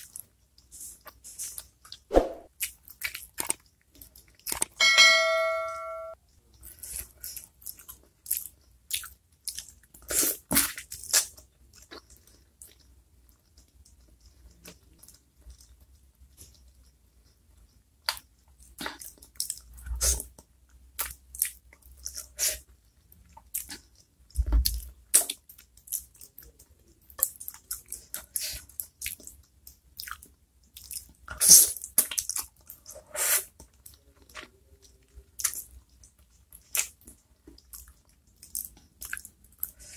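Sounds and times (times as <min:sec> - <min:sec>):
wet chewing and smacking: 0:00.0 - 0:04.8, 0:06.3 - 0:39.9.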